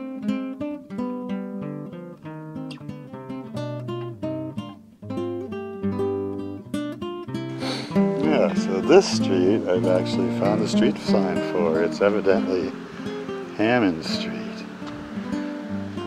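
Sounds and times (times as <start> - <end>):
acoustic guitar picked notes: 0.0 - 16.0.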